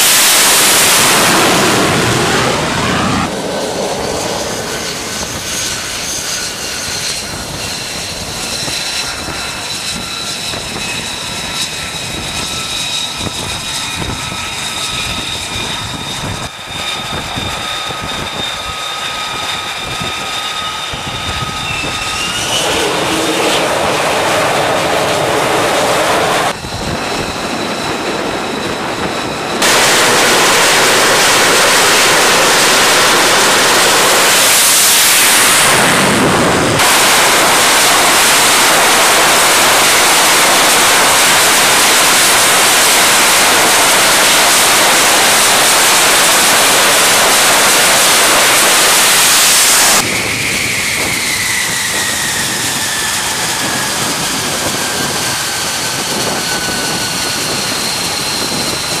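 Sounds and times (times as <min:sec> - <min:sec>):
high whine falling in pitch: 0:00.0 - 0:07.9, 0:09.0 - 0:59.0
jet engine roar: 0:00.0 - 0:59.0.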